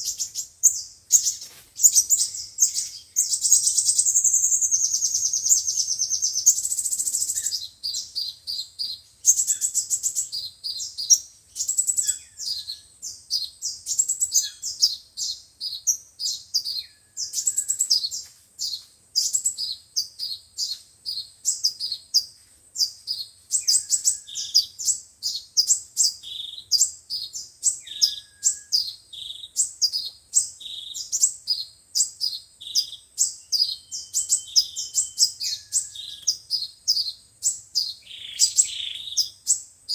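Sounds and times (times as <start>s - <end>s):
sunbird chirps and trills: 0.0s - 39.9s.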